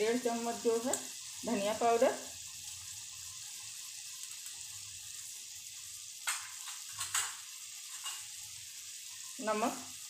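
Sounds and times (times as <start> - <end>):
gravy sizzling and bubbling: 0.0 - 10.0.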